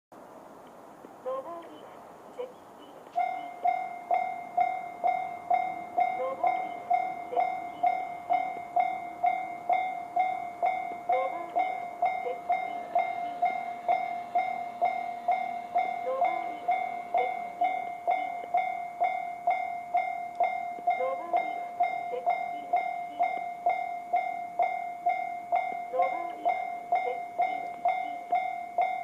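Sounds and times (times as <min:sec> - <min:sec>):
level crossing alarm dinging: 0:01.7 - 0:29.0.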